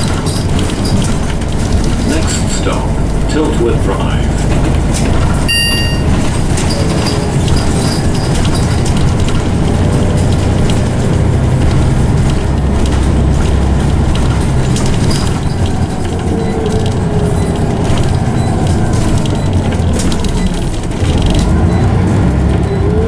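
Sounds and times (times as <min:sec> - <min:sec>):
bodywork rattles: 0:00.0 - 0:23.0
bus engine drone: 0:00.0 - 0:23.0
faint gearbox whine: 0:00.4 - 0:23.0.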